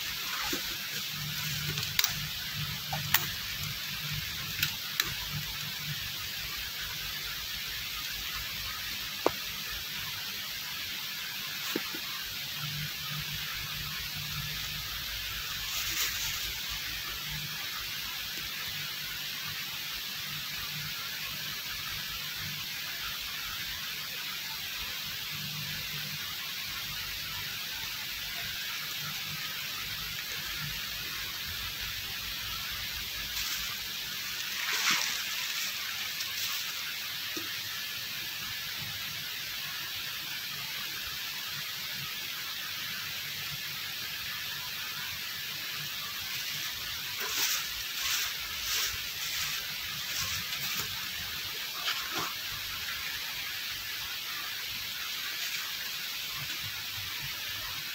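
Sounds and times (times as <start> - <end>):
steady airy hiss: 0.0 - 57.9.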